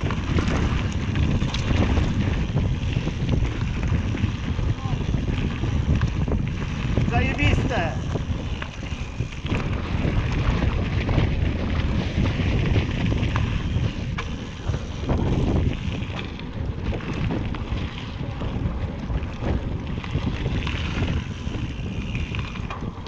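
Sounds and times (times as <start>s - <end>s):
bike clicks and knocks: 0.0s - 23.0s
wind rushing over microphone: 0.0s - 23.0s.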